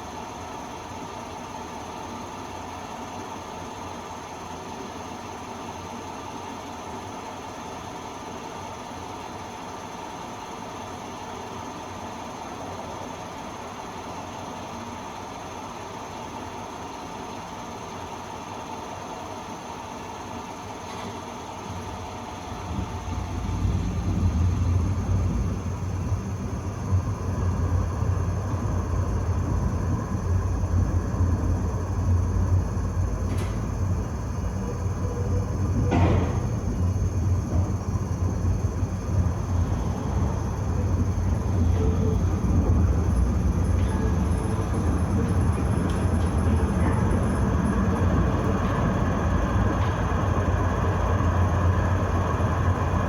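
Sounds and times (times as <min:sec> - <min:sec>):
tram wheels and motors rumbling: 0:00.0 - 0:53.0.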